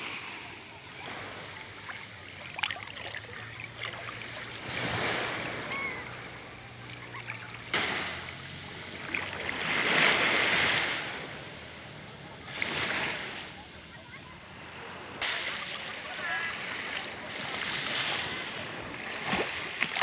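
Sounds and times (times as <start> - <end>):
waves washing on sandy beach: 0.0 - 20.0.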